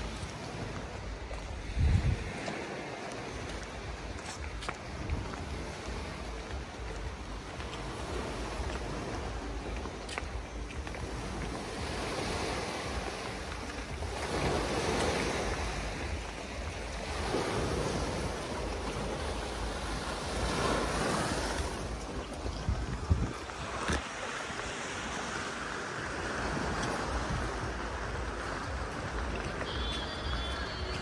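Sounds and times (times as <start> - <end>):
waves washing onto pebbles: 0.0 - 31.0
wind rumbling on microphone: 0.0 - 31.0.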